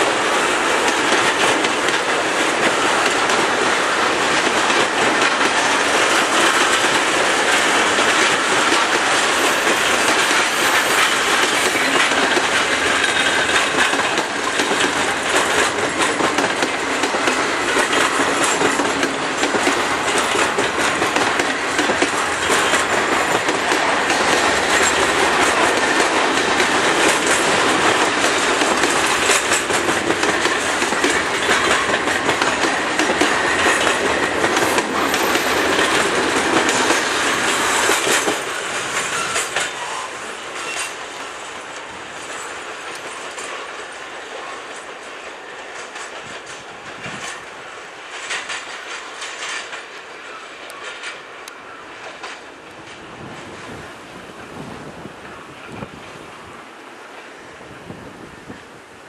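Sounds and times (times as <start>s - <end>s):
train wheels clattering over rail joints: 0.0s - 56.2s.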